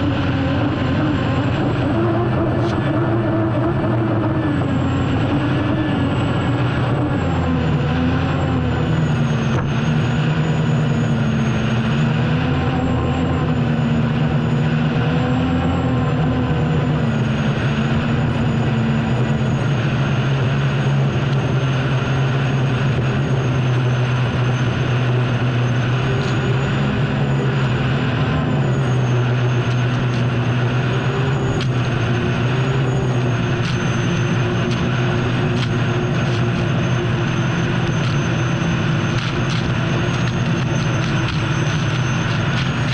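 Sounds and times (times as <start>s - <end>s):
turbine engine drone and whine: 0.0s - 42.9s.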